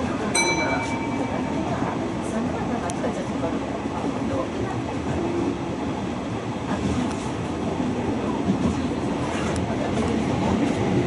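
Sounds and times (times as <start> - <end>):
train rumbling inside car: 0.0 - 11.0.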